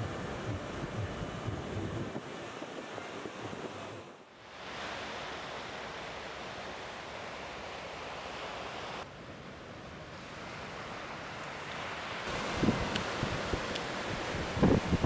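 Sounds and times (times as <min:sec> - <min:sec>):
ocean surf washing onto beach: 0:00.0 - 0:15.0.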